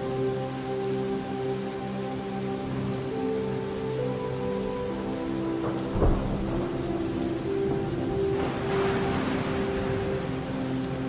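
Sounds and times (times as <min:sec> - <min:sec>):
soft slow piano music: 0:00.0 - 0:11.0
steady rainfall: 0:00.0 - 0:11.0.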